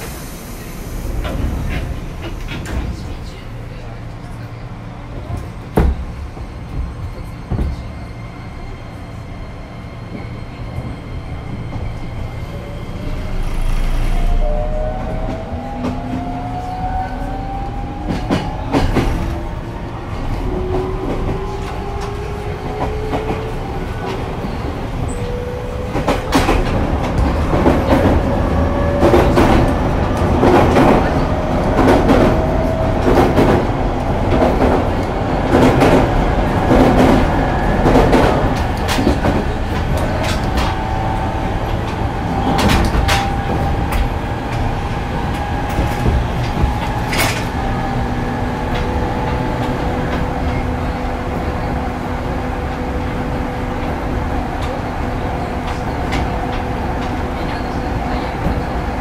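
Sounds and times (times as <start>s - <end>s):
rail-joint clickety-clack: 0.0s - 4.5s, 5.1s - 8.2s, 17.2s - 59.0s
train running rumble: 0.0s - 59.0s.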